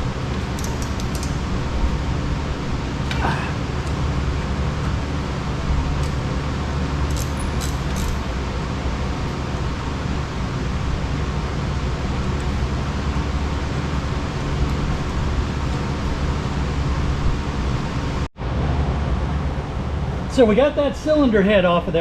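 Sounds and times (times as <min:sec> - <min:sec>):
mechanical hum and hiss: 0:00.0 - 0:22.0.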